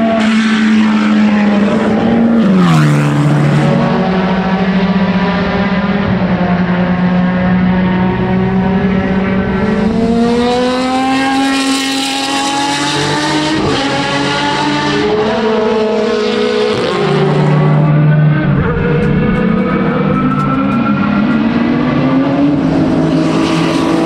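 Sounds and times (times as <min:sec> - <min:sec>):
racing car engine accelerating: 0:00.0 - 0:24.0.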